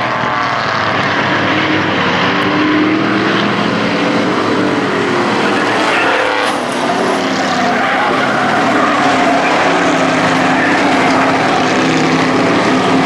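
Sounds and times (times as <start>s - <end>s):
model race truck engines: 0.0s - 13.0s.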